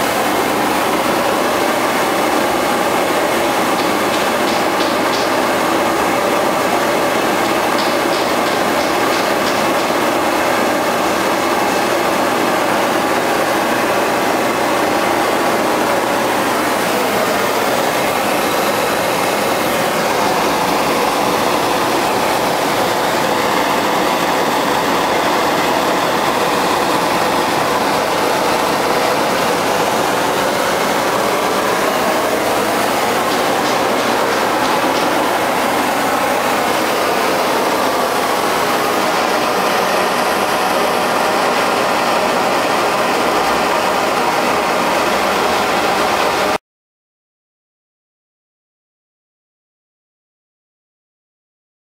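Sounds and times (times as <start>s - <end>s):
forge burner roaring: 0.0s - 46.6s.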